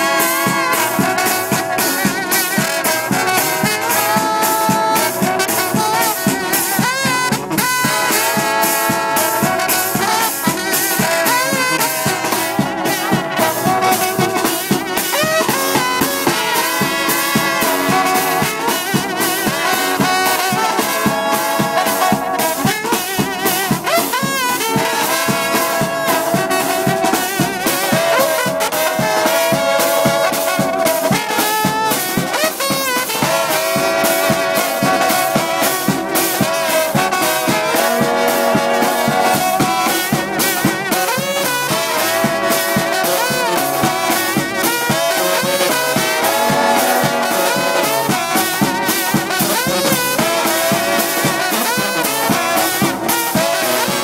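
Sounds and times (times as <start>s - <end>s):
sousaphone bass line: 0.0s - 53.4s
bass drum beat: 0.0s - 54.0s
snare drum: 0.0s - 54.0s
trumpets and trombones: 0.0s - 54.0s.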